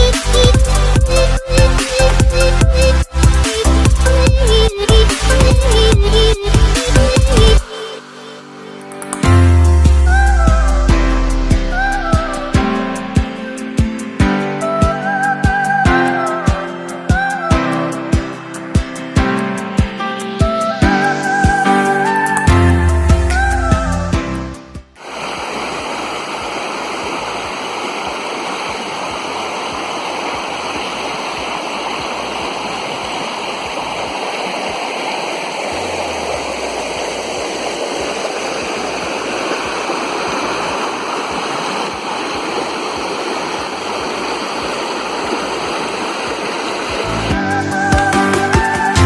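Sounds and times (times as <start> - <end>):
river water rushing: 0.0 - 23.9, 25.0 - 49.0.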